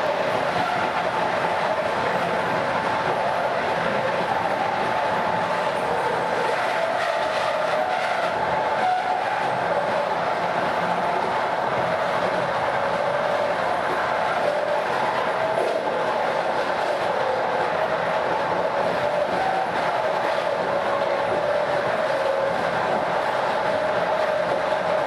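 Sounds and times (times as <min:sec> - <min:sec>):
rumble of running train: 0:00.0 - 0:25.0
train wheels singing on rails: 0:00.0 - 0:25.0.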